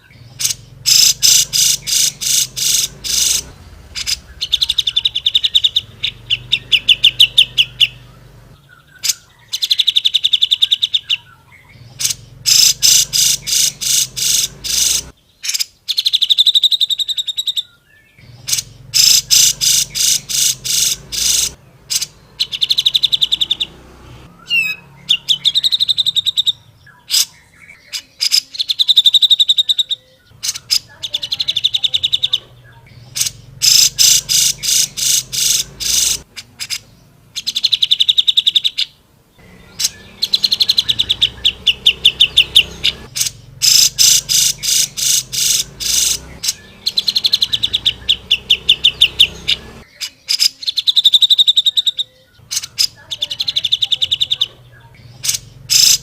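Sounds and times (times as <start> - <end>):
bird singing chattering trills: 0.0 - 56.0.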